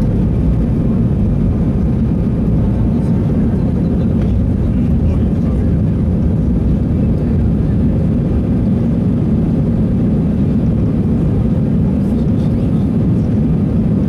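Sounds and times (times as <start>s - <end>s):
airliner cabin jet engine noise: 0.0s - 14.0s.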